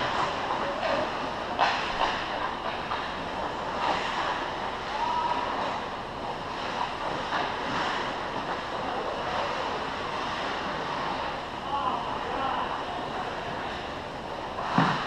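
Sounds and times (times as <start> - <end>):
rink and crowd noise: 0.0 - 15.0.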